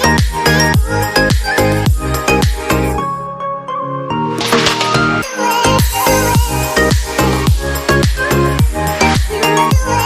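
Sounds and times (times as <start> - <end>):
electronic dance music: 0.0 - 3.0, 4.4 - 10.0.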